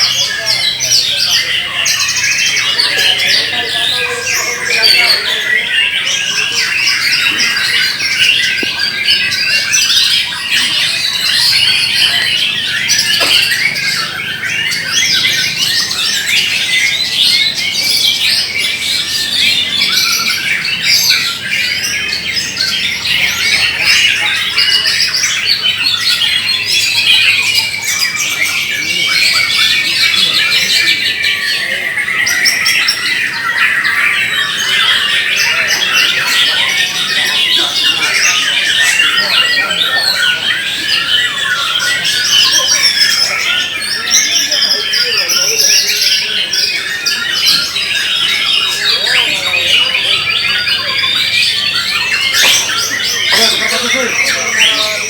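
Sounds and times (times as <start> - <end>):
chorus of songbirds singing: 0.0 - 55.0.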